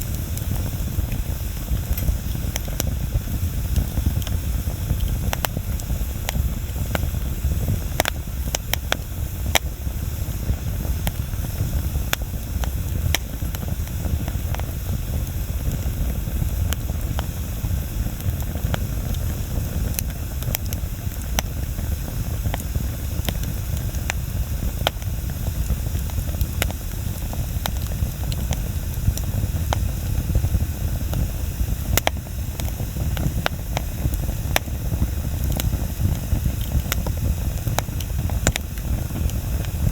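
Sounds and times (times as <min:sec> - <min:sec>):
wood bonfire crackling: 0:00.0 - 0:39.9.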